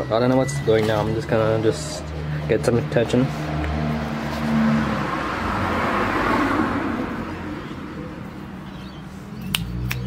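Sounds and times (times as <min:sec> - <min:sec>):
road vehicle passing by: 0:00.0 - 0:10.0.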